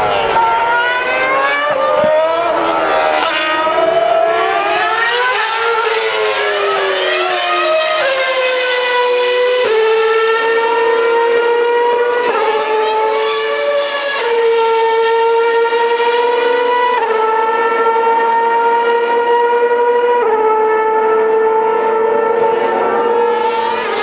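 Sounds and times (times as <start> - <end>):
racing cars high-revving engines: 0.0 - 24.0.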